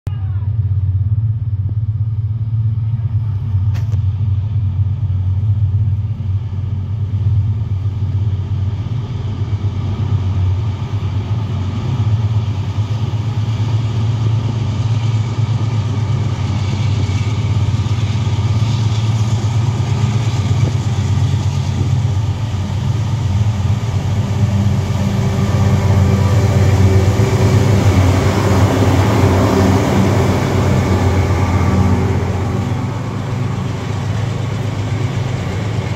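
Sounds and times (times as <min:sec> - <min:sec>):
locomotive engine drone: 0:00.1 - 0:35.9.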